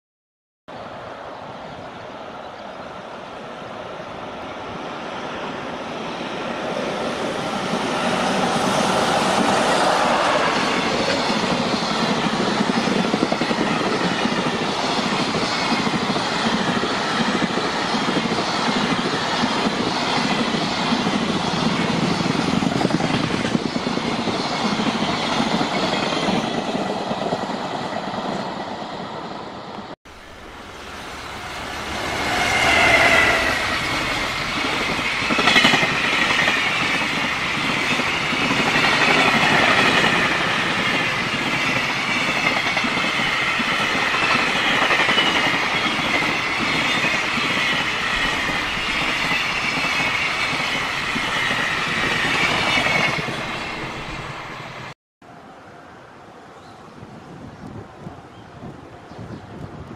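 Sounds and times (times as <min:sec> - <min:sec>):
electric locomotive approaching: 0:00.7 - 0:59.9.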